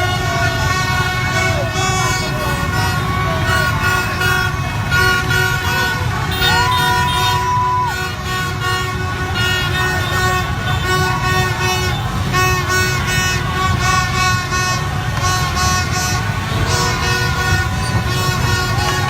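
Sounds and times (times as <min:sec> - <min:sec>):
crowd voices: 0:00.0 - 0:19.0
horns tooting: 0:00.0 - 0:19.0
traffic rumble: 0:00.0 - 0:19.0.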